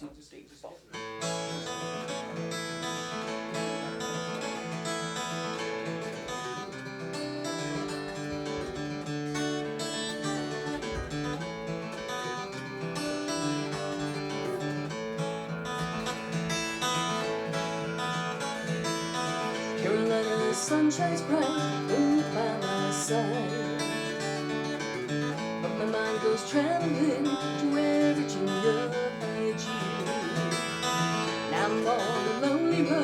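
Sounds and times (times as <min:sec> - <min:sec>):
acoustic guitar strumming and picking: 0:00.0 - 0:33.0.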